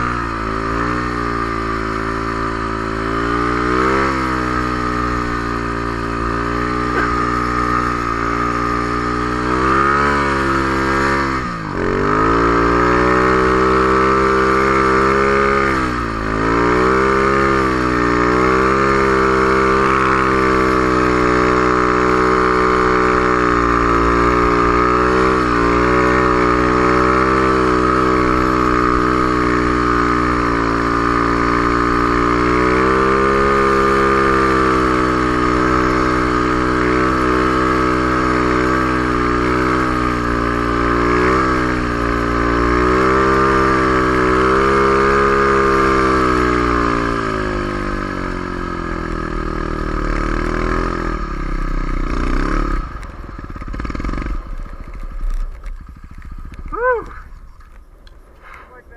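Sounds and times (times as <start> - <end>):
snow bike engine at high revs: 0.0 - 58.9.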